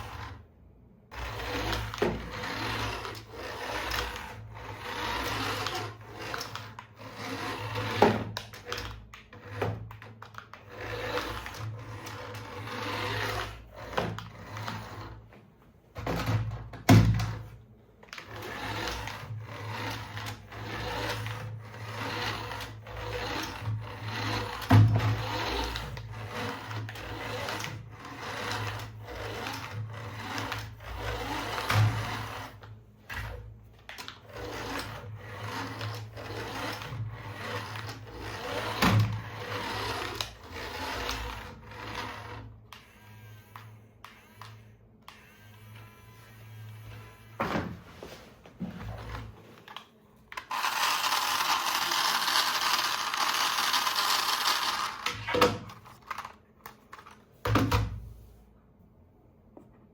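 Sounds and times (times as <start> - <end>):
toy motor whirring: 0.0 - 0.5, 1.1 - 15.3, 18.0 - 47.4, 48.9 - 57.2.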